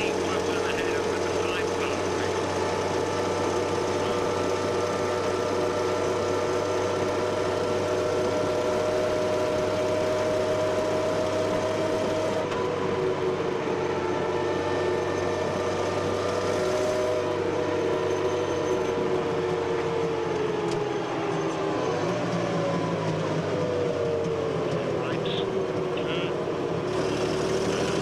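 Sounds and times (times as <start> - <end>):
armoured car engine running: 0.0 - 28.0
drivetrain whine: 0.0 - 28.0.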